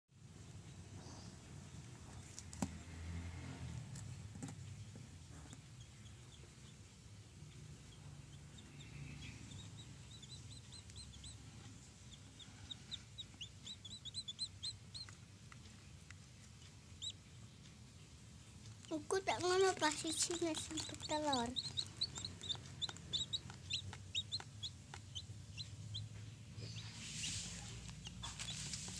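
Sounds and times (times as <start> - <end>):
chicks peeping: 4.4 - 28.9.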